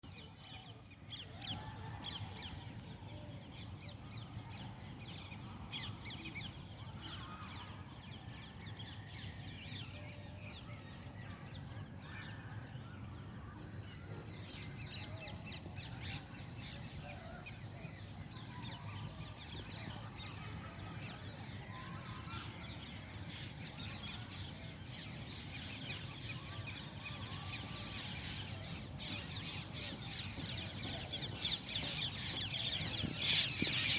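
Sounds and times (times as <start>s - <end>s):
chorus of bird calls: 0.0s - 33.9s.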